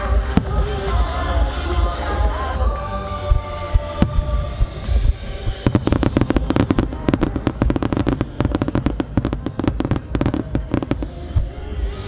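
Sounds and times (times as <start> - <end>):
fireworks popping and crackling: 0.0 - 1.2, 3.3 - 12.0
low rumble: 0.0 - 12.0.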